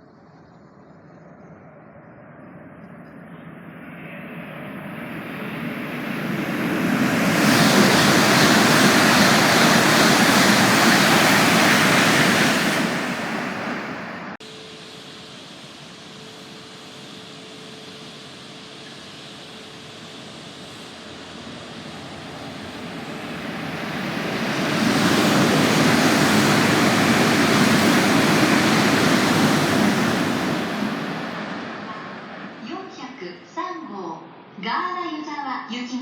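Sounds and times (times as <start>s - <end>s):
faint hum: 0.0s - 34.9s
high-speed train passing: 3.6s - 34.6s.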